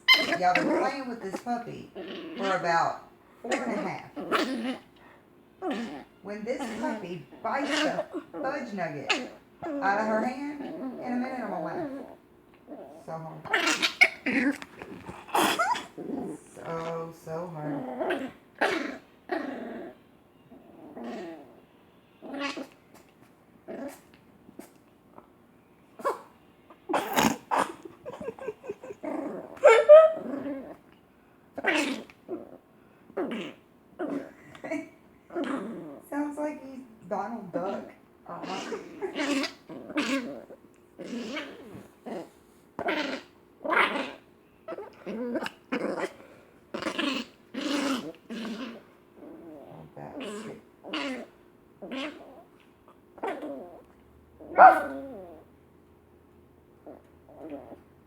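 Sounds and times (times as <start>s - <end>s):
pet growling: 0.0s - 25.3s, 26.0s - 55.5s, 56.8s - 58.0s.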